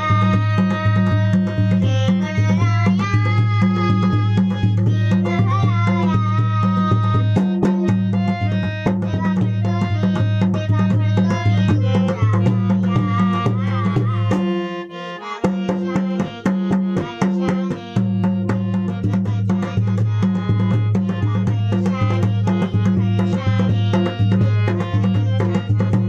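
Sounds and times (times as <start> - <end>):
hand drum beating: 0.0 - 14.7, 15.4 - 26.0
harmonium melody: 0.0 - 26.0.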